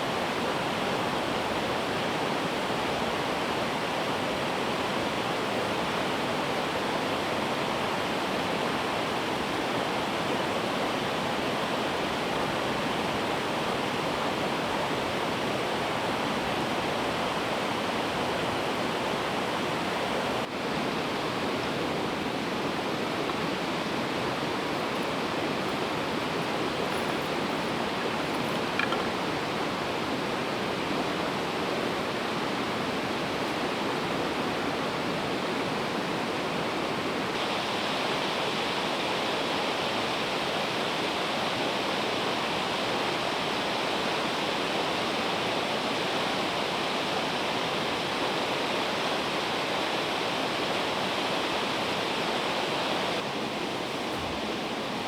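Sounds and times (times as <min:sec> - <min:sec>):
river rushing: 0:06.1 - 0:55.0.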